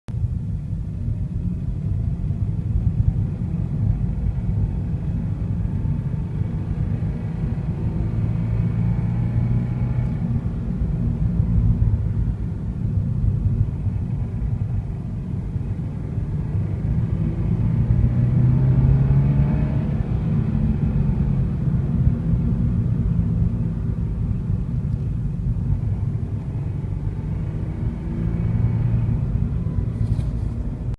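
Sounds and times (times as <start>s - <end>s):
engine rumbling: 0.1s - 30.9s.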